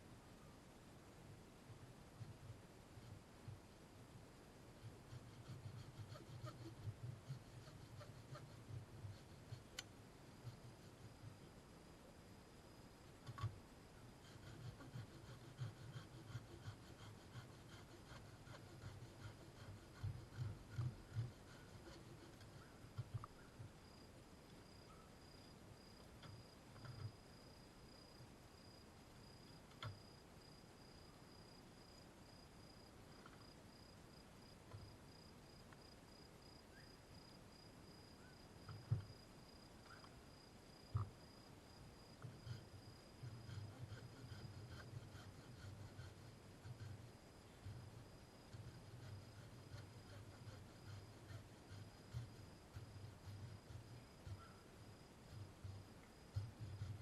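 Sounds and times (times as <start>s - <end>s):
insect chirping: 4.8s - 57.0s.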